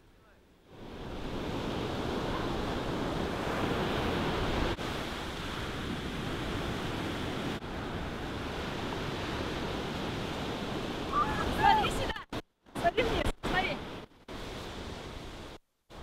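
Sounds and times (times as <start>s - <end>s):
ocean surf breaking on beach: 0.7s - 16.0s.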